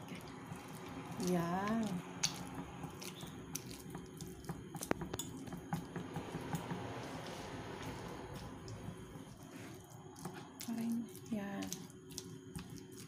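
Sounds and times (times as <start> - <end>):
fork mashing avocado: 0.0 - 13.0.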